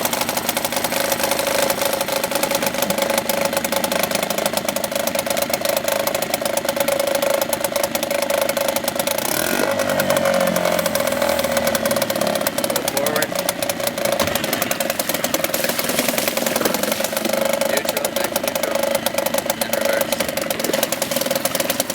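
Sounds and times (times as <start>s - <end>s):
outboard motor running: 0.0s - 21.9s.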